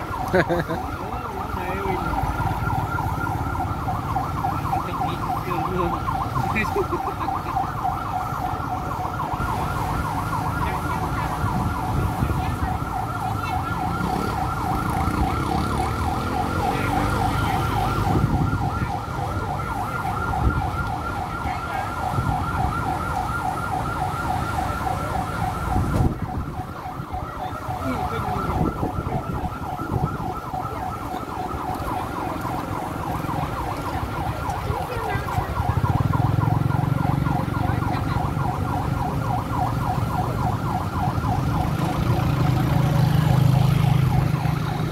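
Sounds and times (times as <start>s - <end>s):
fire truck siren warbling: 0.0s - 44.9s.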